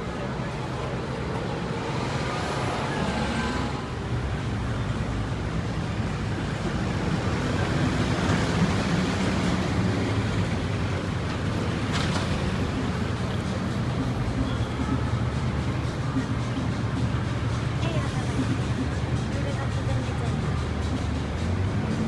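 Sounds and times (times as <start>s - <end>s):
tyre and road noise: 0.0s - 22.0s
vehicle engines humming: 0.0s - 22.0s.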